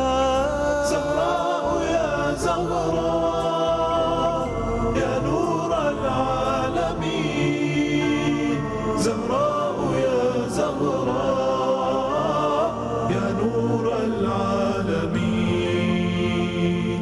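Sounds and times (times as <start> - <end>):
choir-style voices chanting: 0.0 - 17.0
melodic accompaniment: 0.0 - 17.0.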